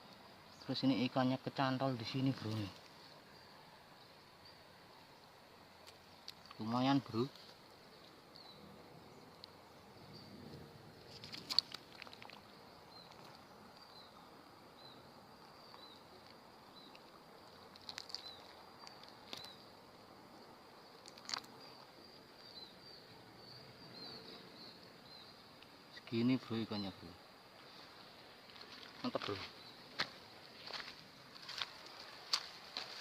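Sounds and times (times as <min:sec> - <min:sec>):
insect chirps: 0:00.0 - 0:33.0
insects droning: 0:00.0 - 0:33.0.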